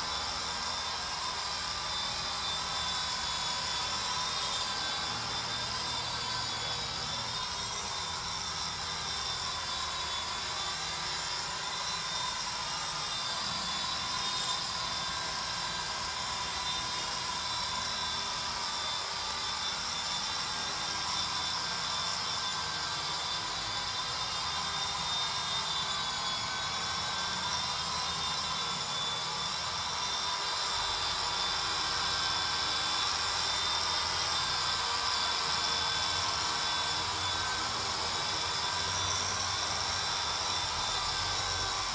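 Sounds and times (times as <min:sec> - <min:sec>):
toy helicopter motor whine: 0:00.0 - 0:41.9.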